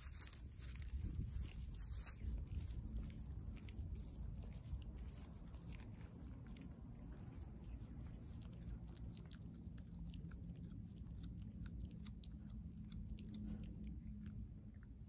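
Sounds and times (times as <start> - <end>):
cat chewing fish: 0.0 - 15.0
low background rumble: 0.0 - 15.0.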